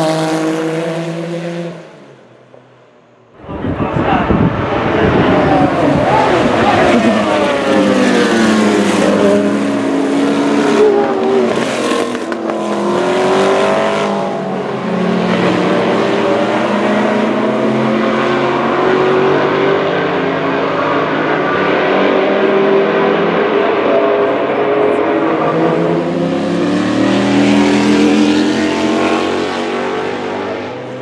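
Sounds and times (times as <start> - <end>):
race cars passing at high revs: 0.0 - 31.0.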